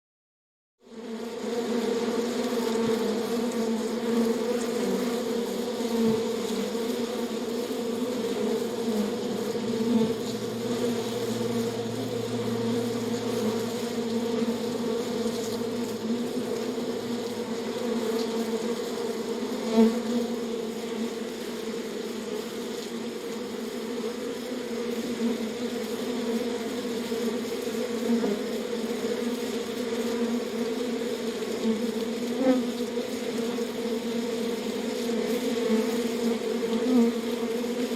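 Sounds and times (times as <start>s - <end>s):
bees humming in a hive: 0.8s - 37.9s
single bee buzzing past: 0.8s - 37.9s.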